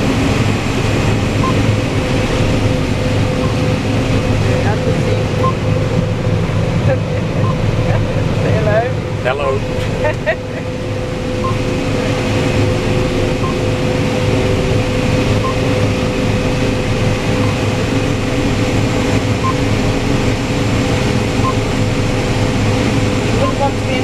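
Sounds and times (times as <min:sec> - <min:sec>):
combine harvester droning: 0:00.0 - 0:24.0.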